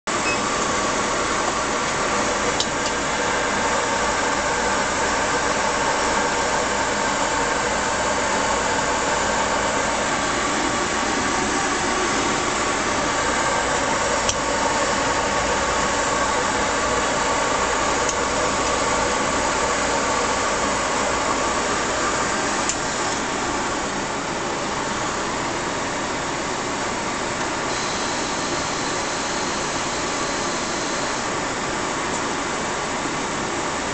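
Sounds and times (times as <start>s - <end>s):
fans and machinery whirring: 0.1s - 33.9s.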